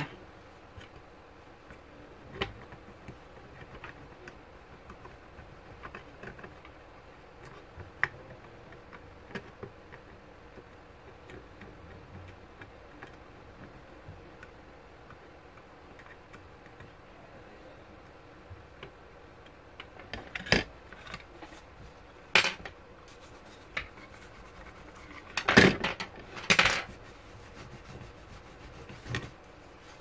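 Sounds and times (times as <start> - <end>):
fingers and tissue clicking and scratching: 0.0 - 30.0.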